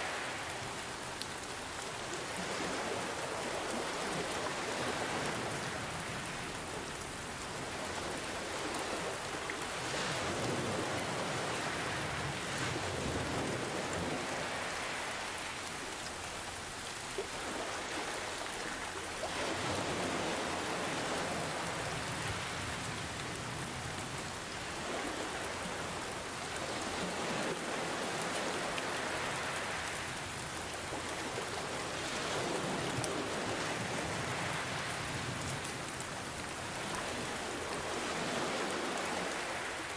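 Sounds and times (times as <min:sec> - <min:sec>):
gentle ocean waves: 0:00.0 - 0:39.9
rain hiss: 0:00.0 - 0:39.9.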